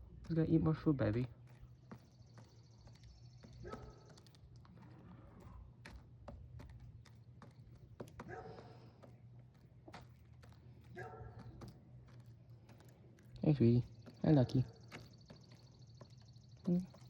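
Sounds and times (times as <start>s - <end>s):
hens pecking at feed: 0.0s - 17.0s.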